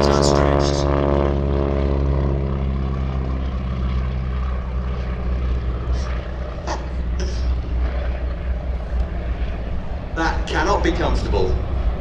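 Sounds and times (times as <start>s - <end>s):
biplane engine droning: 0.0s - 12.0s.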